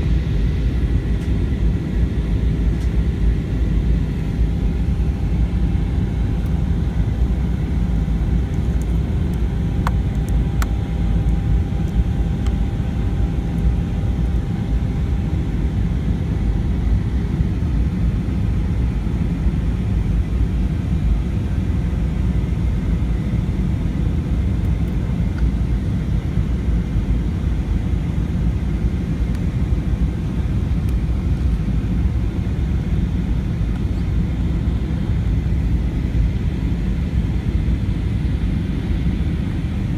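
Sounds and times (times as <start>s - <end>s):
aircraft cabin engine rumble: 0.0s - 39.9s
faint steady whine: 0.0s - 39.9s.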